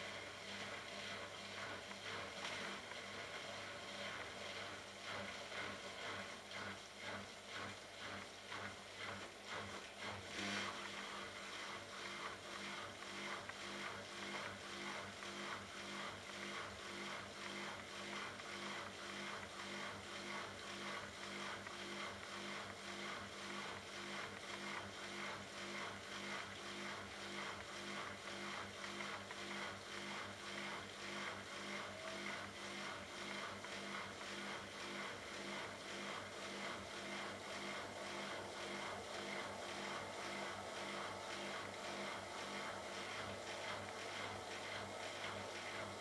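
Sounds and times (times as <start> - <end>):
washing machine drain pump humming: 0.0 - 46.0.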